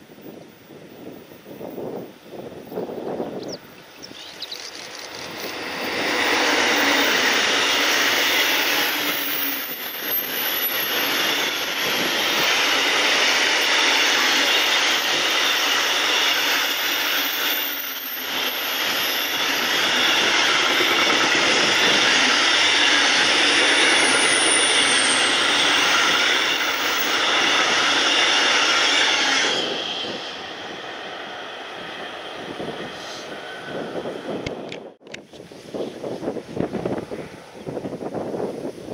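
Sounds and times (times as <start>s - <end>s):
train wheels rumbling on rail: 0.0s - 38.9s
wind: 0.0s - 38.9s.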